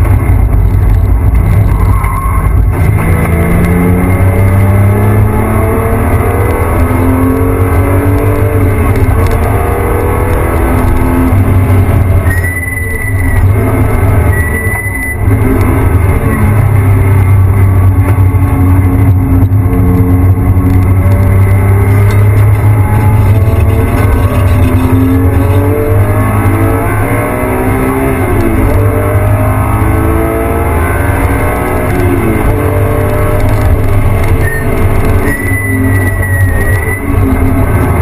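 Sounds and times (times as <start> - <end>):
car engine revving through gears: 0.0 - 38.0
road and wind noise: 0.0 - 38.0.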